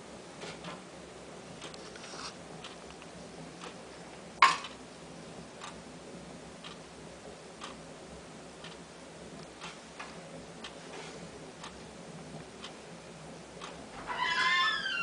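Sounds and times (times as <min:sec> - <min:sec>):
faint regular ticking: 0:01.4 - 0:14.0.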